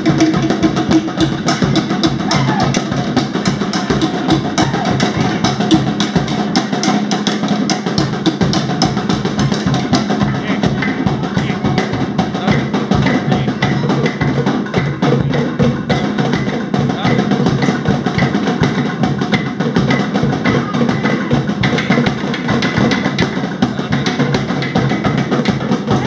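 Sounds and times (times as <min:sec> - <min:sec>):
deeper drum beat: 0:00.0 - 0:26.0
rapid sharp drum strokes: 0:00.0 - 0:26.0.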